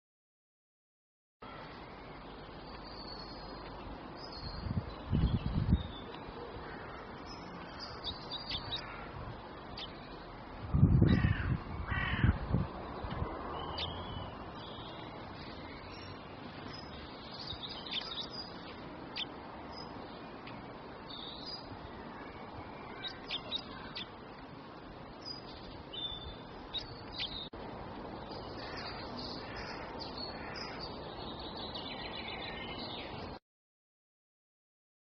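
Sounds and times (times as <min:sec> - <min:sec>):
songbirds chirping: 0:01.4 - 0:33.4
steady background hiss: 0:01.5 - 0:33.4.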